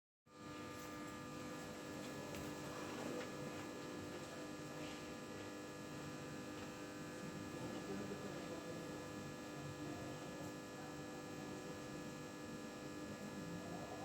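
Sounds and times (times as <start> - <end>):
computer electrical hum: 0.3 - 14.0.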